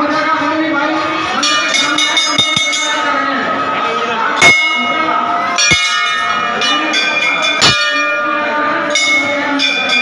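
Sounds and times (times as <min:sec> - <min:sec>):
metal temple bells ringing: 0:01.1 - 0:10.0.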